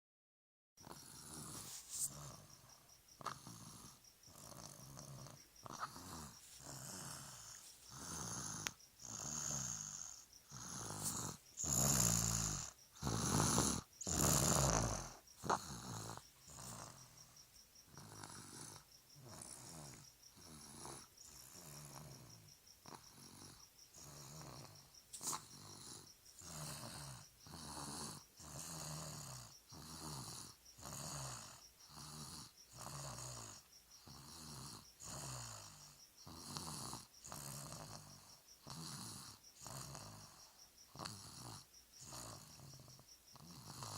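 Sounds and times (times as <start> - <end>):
child snoring: 0.8 - 43.9.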